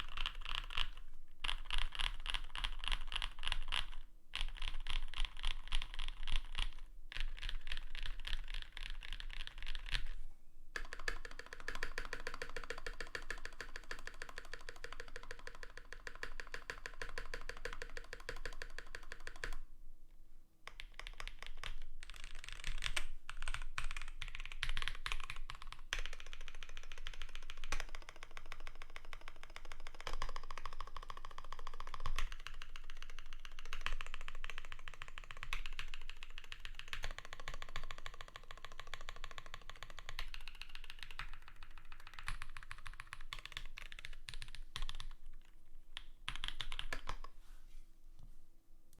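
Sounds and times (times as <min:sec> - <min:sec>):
typing on mechanical keyboard: 0:00.0 - 0:10.2, 0:10.8 - 0:19.6, 0:20.7 - 0:47.3.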